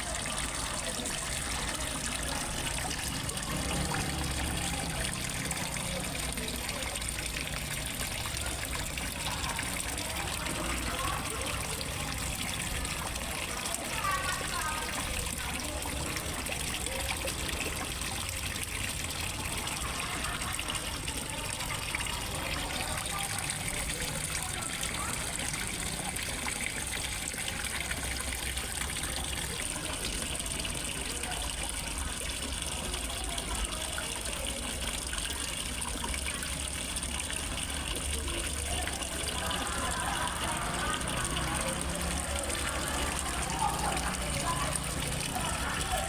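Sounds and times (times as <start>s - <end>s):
waterfall trickling into pond: 0.0s - 46.0s.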